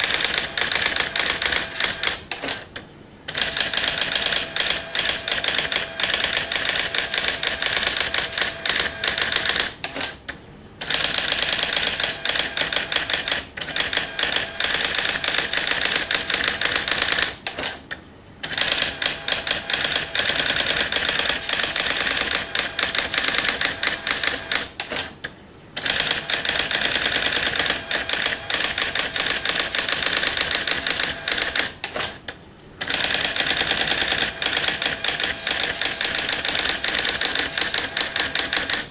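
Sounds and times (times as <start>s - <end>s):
electronic typewriter printing: 0.0s - 2.7s, 3.3s - 10.2s, 10.8s - 17.8s, 18.4s - 25.2s, 25.8s - 38.9s.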